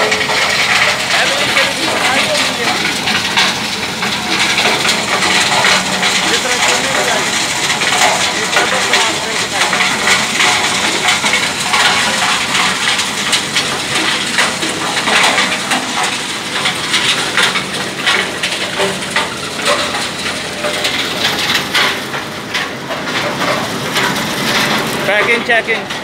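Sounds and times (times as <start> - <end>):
machine rattle: 0.0 - 26.0
rock crusher crunching stone: 0.0 - 26.0.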